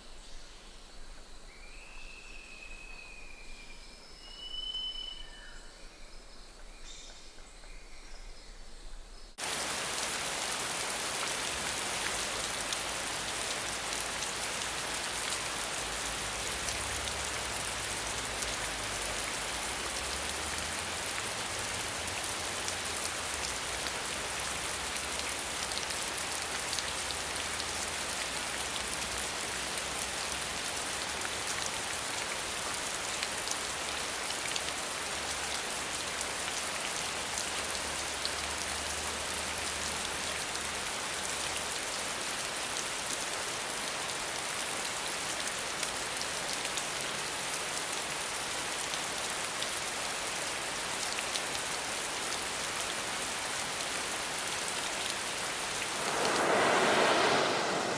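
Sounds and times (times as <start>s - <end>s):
steady rain falling: 9.4s - 57.9s.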